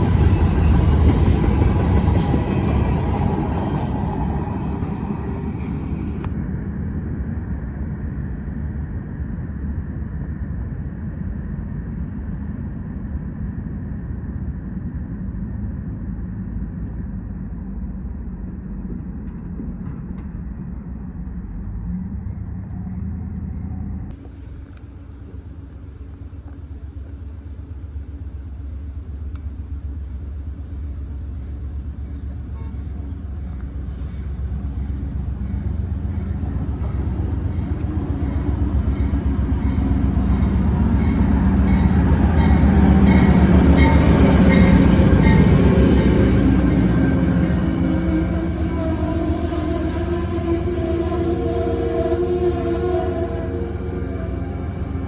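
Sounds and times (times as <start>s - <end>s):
low rumble of trains: 0.0s - 55.0s.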